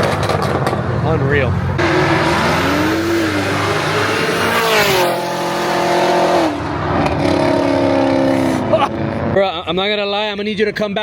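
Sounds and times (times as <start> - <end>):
car engine revving and accelerating: 0.0 - 9.4.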